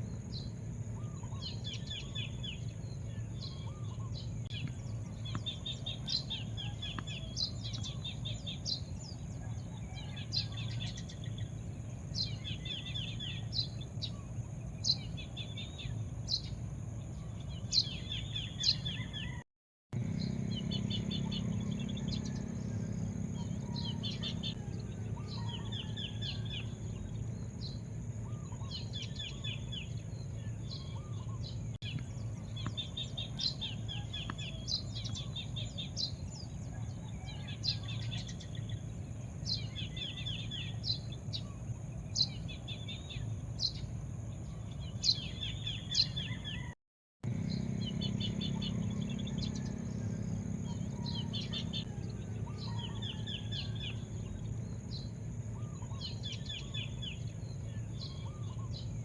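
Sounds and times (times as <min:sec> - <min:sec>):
low background rumble: 0:00.0 - 0:19.4, 0:20.0 - 0:46.6, 0:47.2 - 0:59.0
small birds chirping: 0:00.0 - 0:19.4, 0:20.0 - 0:59.0.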